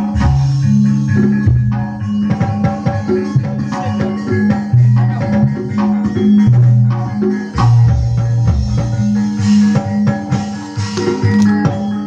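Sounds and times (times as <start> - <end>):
instrumental music over loudspeakers: 0.0 - 12.0.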